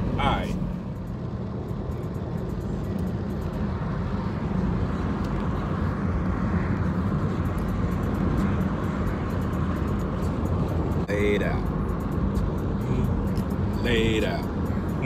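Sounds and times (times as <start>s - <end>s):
car cabin road and engine drone: 0.0s - 15.0s.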